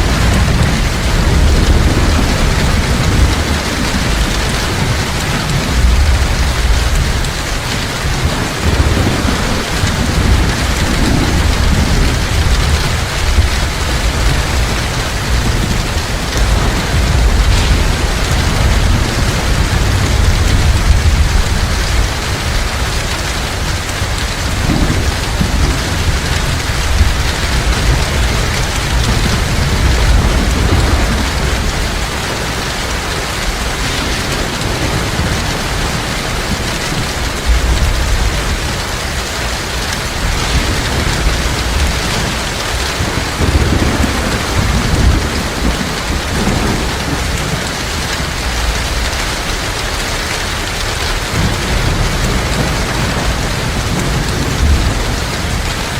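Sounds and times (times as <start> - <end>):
heavy rain falling: 0.0 - 55.9
low thunder rumbling: 0.0 - 55.9.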